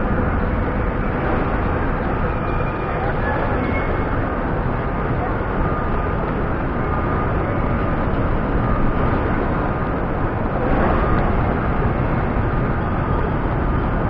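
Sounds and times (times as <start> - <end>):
faint high whine: 0.0 - 14.0
moving tram running: 0.0 - 14.0.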